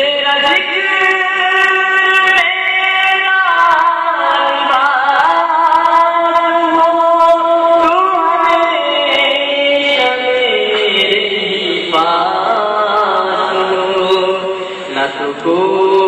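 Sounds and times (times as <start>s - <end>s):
person chanting: 0.0s - 16.0s.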